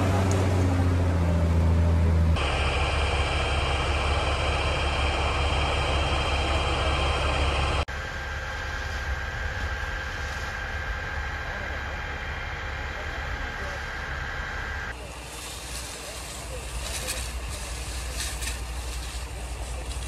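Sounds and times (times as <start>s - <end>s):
fire truck engines droning: 0.0s - 20.0s.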